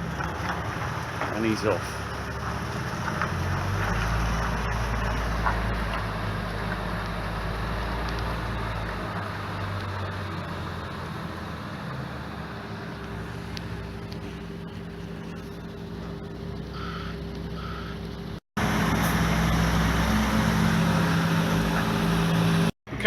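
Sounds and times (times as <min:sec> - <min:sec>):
lorry diesel engine pulling away: 0:00.0 - 0:22.8.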